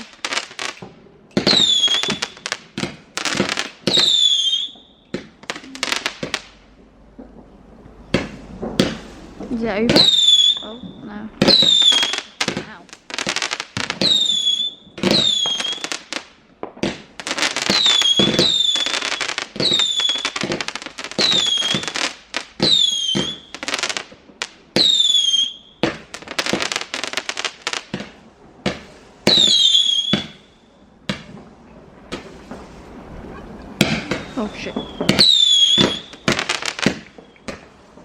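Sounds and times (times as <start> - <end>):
whistling fireworks: 0.0 - 6.6, 8.0 - 38.0
fireworks bangs and crackling: 0.0 - 38.0.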